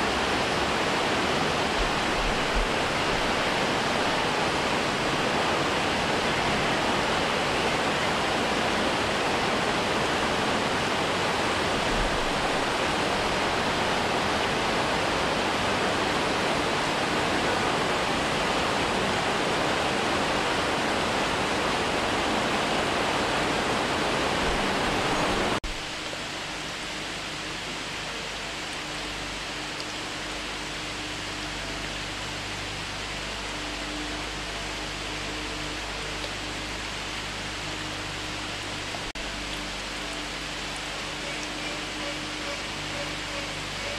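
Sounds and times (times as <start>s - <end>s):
water rushing over stone weir: 0.0s - 43.9s.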